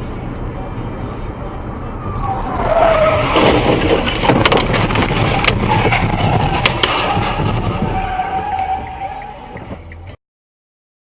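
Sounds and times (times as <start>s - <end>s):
car road and engine noise: 0.0s - 10.2s.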